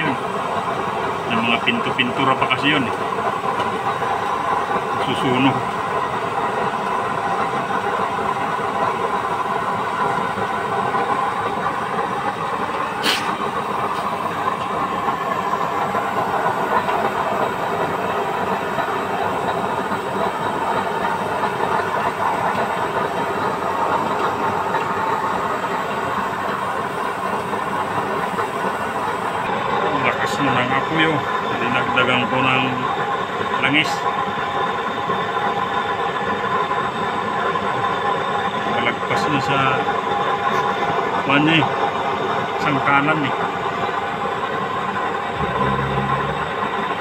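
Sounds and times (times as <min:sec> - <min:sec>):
oil stove burner hissing: 0:00.0 - 0:38.4.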